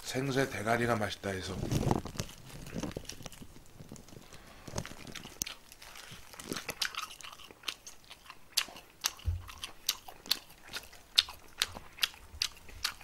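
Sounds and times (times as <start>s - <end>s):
crunching and chewing: 1.6s - 13.0s.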